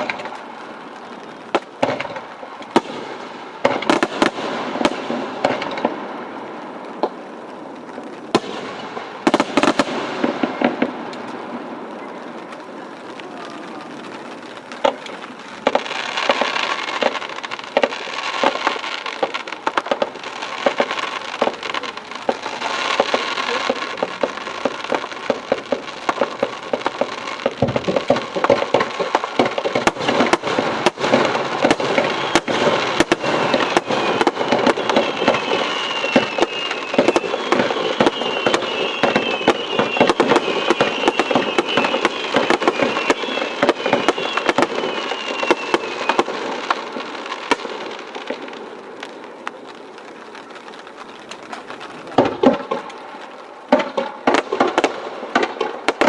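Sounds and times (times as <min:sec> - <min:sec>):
dense firework crackling: 0:00.0 - 0:56.0
falling firework whistles: 0:00.0 - 0:56.0
firework shells bursting: 0:00.0 - 0:56.0.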